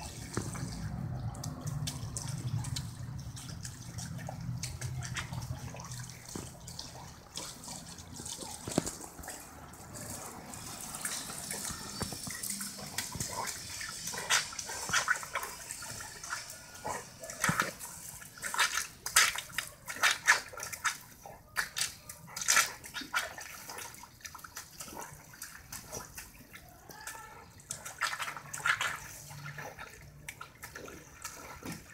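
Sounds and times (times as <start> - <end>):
dog biting and lapping water: 0.0 - 31.9
water running from a hose: 0.0 - 31.9.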